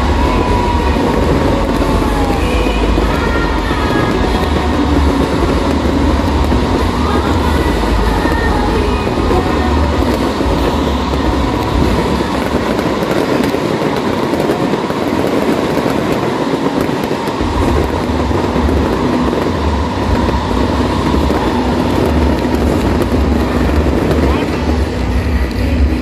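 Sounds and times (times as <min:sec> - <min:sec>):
fireworks crackling: 0:00.0 - 0:26.0
fireworks roaring and bursting: 0:00.0 - 0:26.0
heavy low rumble: 0:00.0 - 0:26.0.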